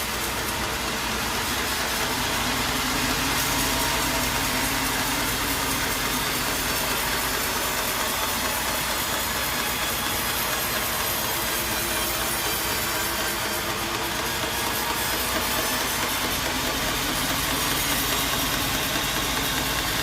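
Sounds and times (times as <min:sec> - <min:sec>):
engine running: 0:00.0 - 0:20.0
saw cutting through wood: 0:00.0 - 0:20.0.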